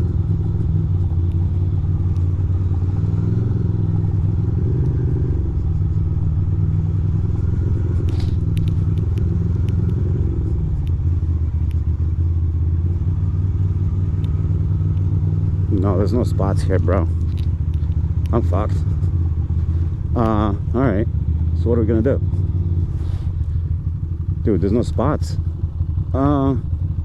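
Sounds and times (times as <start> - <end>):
motorcycle engine at low revs: 0.0 - 27.0.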